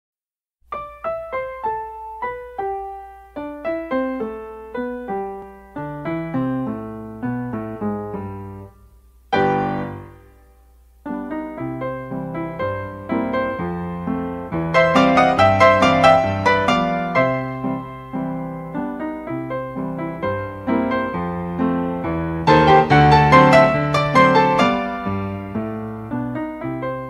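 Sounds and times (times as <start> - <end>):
solo piano music: 0.6 - 27.0.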